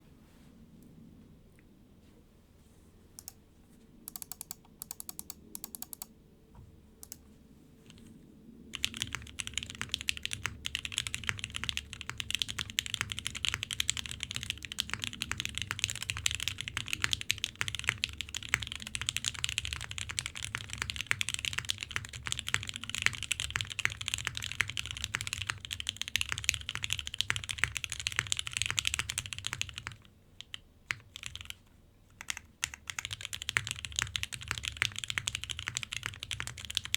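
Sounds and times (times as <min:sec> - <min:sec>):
typing on mechanical keyboard: 0:04.1 - 0:06.1, 0:08.8 - 0:31.6, 0:32.2 - 0:36.9.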